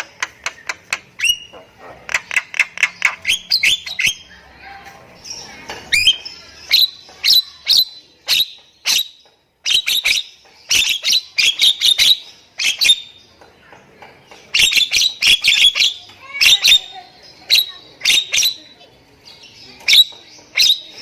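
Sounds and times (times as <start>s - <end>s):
myna bird calling: 0.0s - 13.3s, 14.3s - 21.0s.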